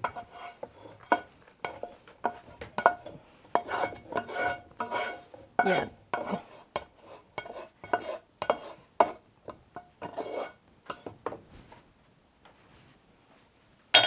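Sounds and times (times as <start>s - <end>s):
utensil scraping and knocking pan: 0.0s - 11.8s.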